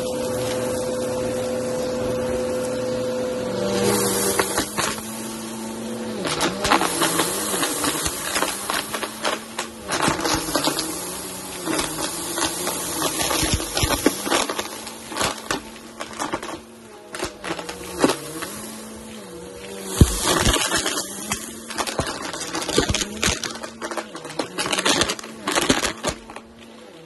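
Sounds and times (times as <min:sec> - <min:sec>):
lentils rattling up vacuum: 0:00.0 - 0:27.0
upright vacuum running on carpet: 0:00.0 - 0:27.0.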